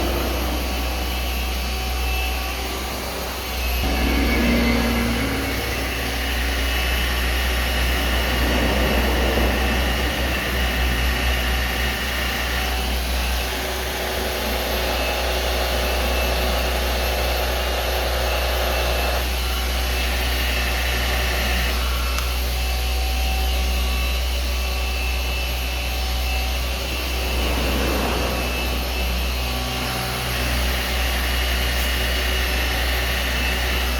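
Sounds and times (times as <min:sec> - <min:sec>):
machine polisher motor whine: 0:00.0 - 0:33.9.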